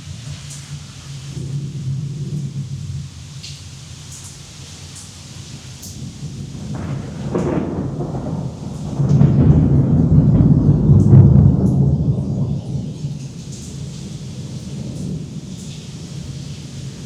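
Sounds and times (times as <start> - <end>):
thunder rolling: 0.0 - 4.0, 5.6 - 17.0
steady rain: 0.0 - 17.0.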